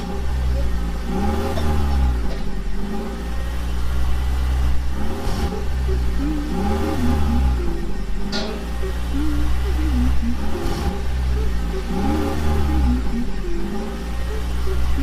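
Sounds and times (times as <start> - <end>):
engine running and revving: 0.0 - 15.0.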